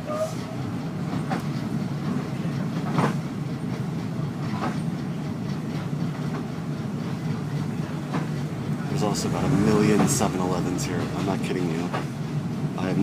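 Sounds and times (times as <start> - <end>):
train rumble inside carriage: 0.0 - 13.0
wheels clacking over rail joints: 0.0 - 13.0.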